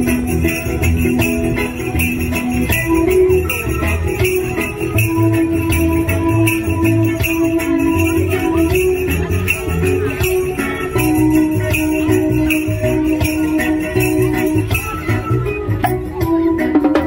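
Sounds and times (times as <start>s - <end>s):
pulsing bass line: 0.0s - 17.0s
steel pan melody: 0.0s - 17.0s.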